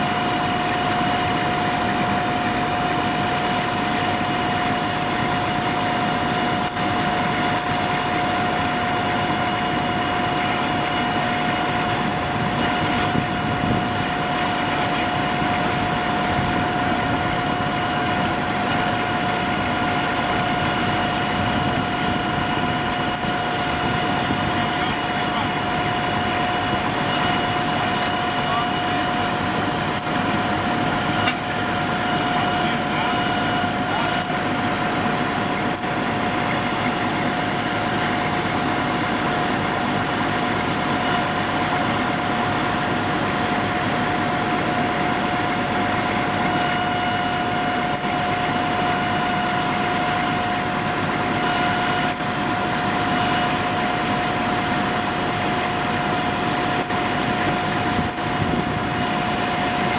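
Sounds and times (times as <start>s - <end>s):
high whine: 0.0s - 59.9s.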